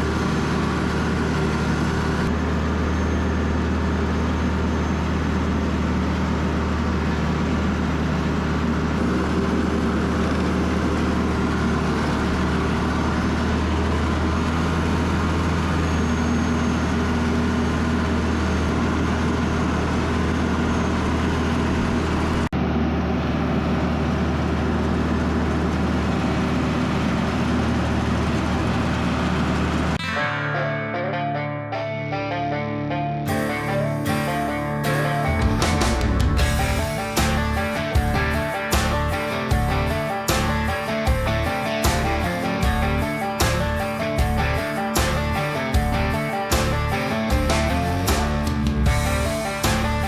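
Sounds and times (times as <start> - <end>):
tractor engine running: 0.0 - 30.0, 33.3 - 50.0.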